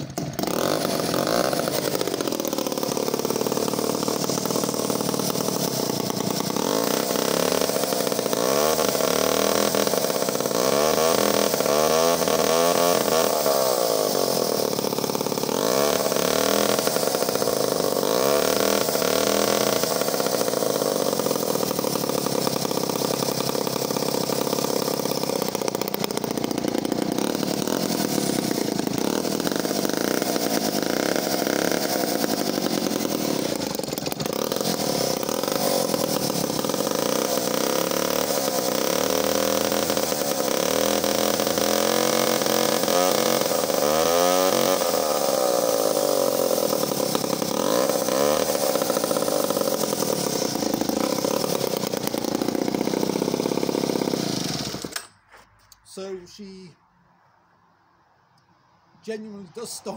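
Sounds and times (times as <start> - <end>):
two-stroke chainsaw engine revving: 0.0 - 55.2.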